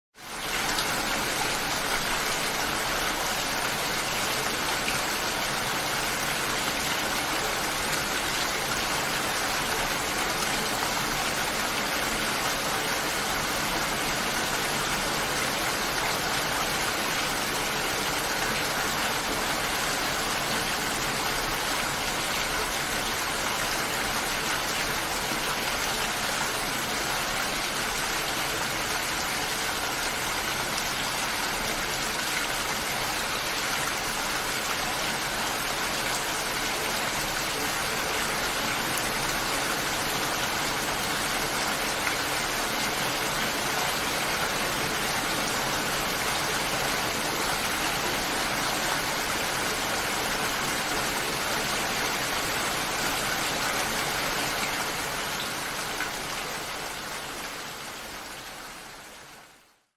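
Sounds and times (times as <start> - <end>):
steady rain: 0.1 - 59.9.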